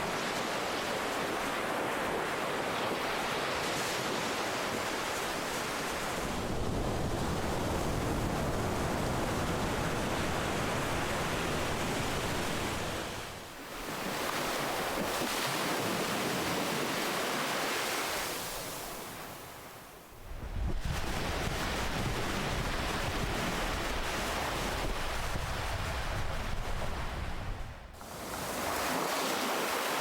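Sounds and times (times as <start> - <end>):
ocean waves washing in: 0.0 - 30.0.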